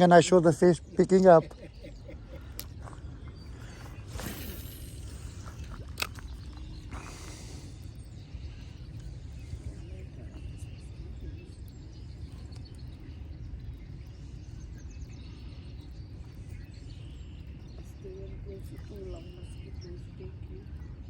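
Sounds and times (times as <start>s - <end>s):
faint high chirps: 1.8s - 21.0s.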